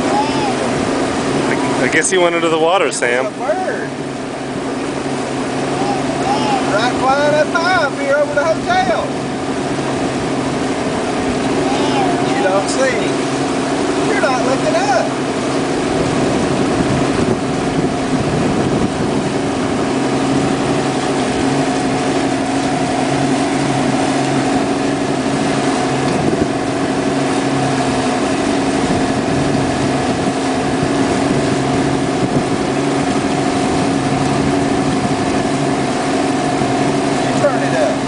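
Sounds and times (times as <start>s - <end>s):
motorboat engine droning: 0.0s - 38.0s
water wash: 0.0s - 38.0s.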